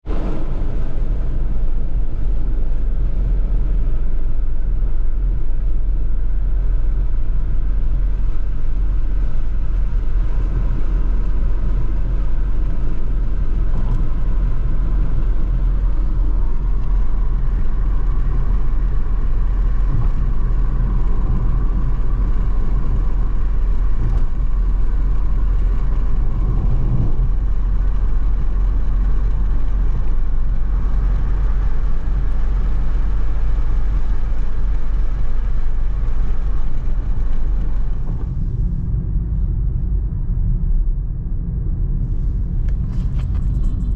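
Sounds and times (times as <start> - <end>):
car engine and road rumble: 0.0 - 43.9.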